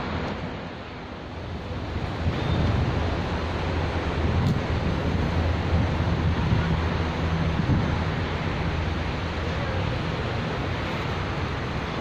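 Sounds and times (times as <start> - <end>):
outdoor low rumble: 0.0 - 12.0.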